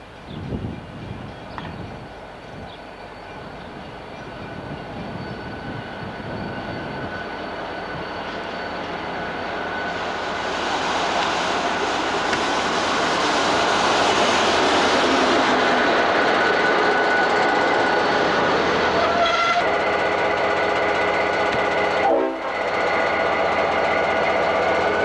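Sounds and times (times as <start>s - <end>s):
locomotive engine and wheel noise: 0.0s - 25.0s
steady high whine: 2.2s - 25.0s.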